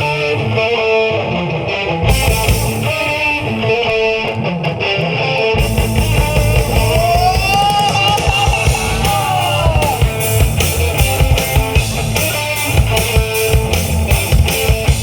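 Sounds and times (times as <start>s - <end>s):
electric guitar riff: 0.0s - 15.0s
rock band playing live: 0.0s - 15.0s.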